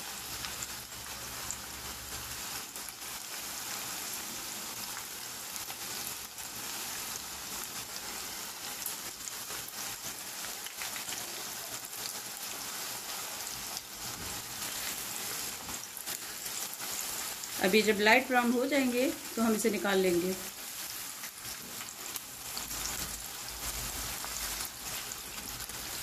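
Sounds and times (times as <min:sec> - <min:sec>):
chicken deep-frying in oil: 0:00.0 - 0:26.0.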